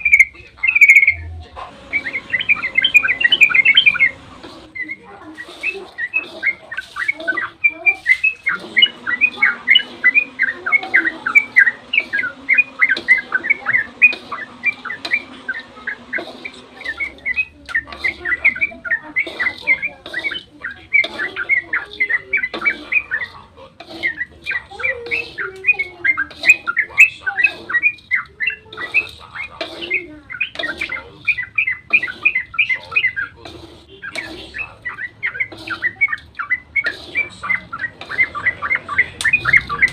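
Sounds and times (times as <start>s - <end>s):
bird rapid chirping song: 0.0s - 39.9s.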